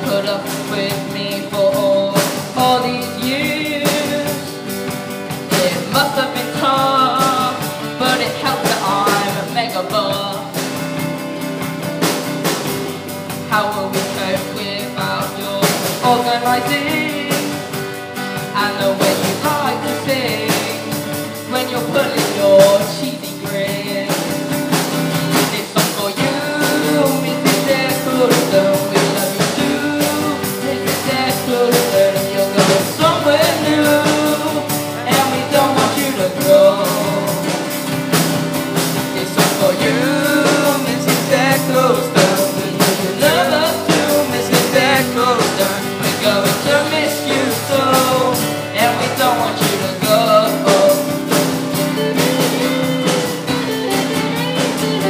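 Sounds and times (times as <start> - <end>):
person singing: 0.0 - 11.2, 12.0 - 55.0
rock band with drum kit: 0.0 - 55.0.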